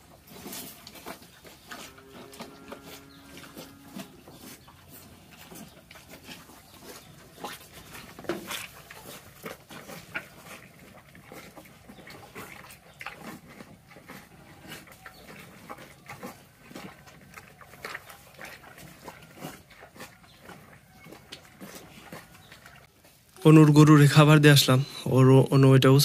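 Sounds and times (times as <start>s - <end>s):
cow slurping and smacking: 0.0s - 23.4s.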